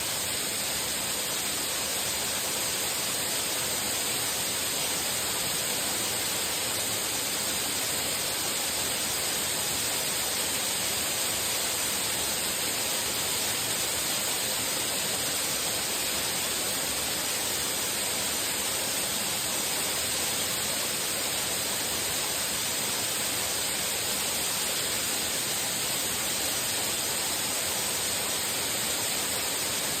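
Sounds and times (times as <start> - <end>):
waterfall pouring and splashing: 0.0 - 30.0.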